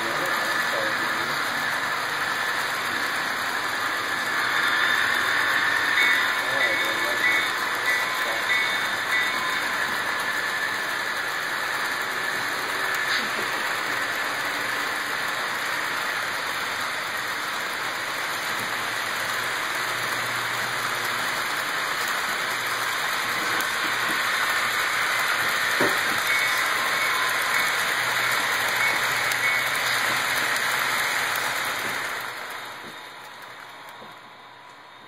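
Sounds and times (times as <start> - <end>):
model train wheels rolling on rails: 0.0 - 35.0.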